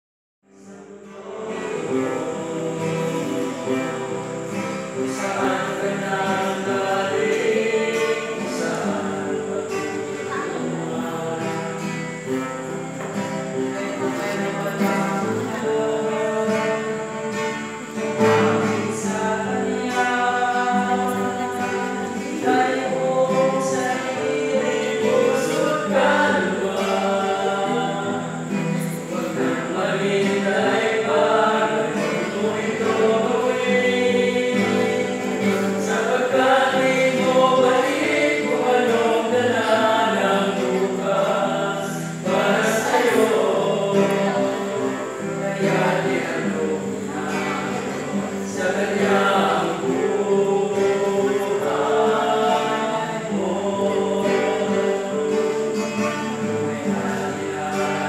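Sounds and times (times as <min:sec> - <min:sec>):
acoustic guitar: 0:00.4 - 0:58.0
men singing together: 0:00.6 - 0:58.0.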